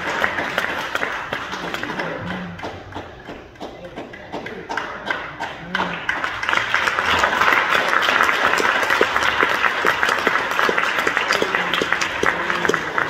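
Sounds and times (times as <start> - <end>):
congregation applauding: 0.0 - 13.0.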